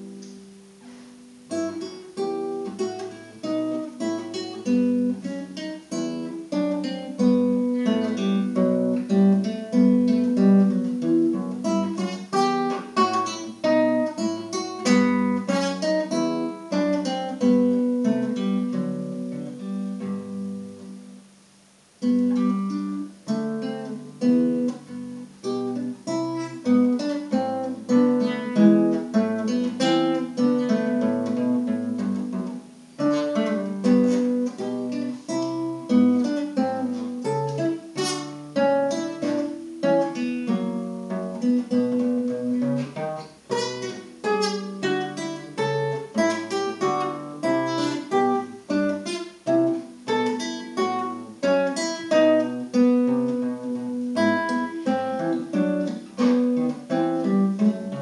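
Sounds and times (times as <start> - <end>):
classical guitar fingerpicked: 0.0 - 58.0.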